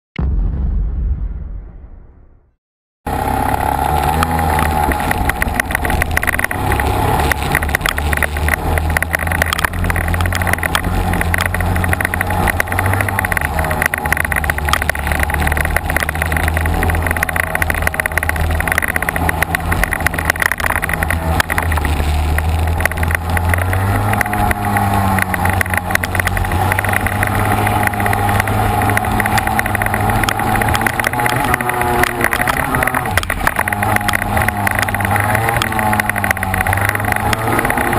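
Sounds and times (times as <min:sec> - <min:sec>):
kart engine running hard: 0:03.1 - 0:37.9.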